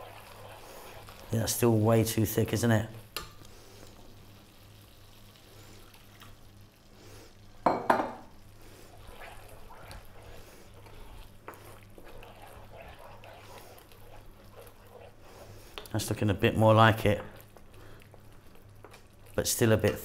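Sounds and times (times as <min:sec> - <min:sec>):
wooden spoon stirring gravy: 0:00.0 - 0:06.5, 0:07.9 - 0:20.0.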